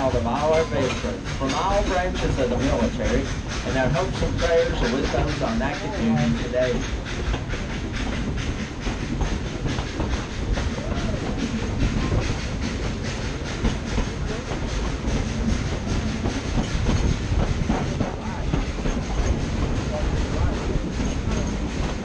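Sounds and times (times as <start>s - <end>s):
train coaches rumbling and rattling: 0.0s - 22.0s.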